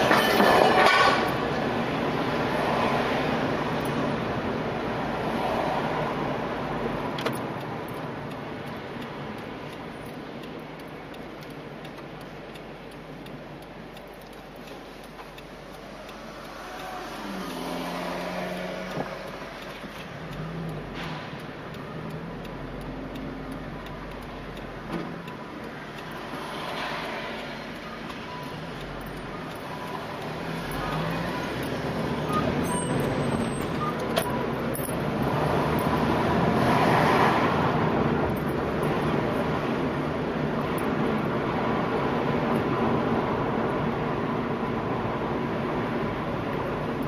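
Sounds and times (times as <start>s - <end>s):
road and engine noise: 0.0s - 47.0s.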